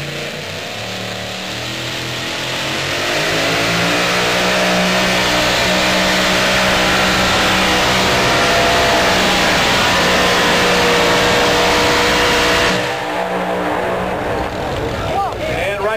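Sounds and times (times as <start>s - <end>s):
supercharged engine revving: 0.0s - 15.2s.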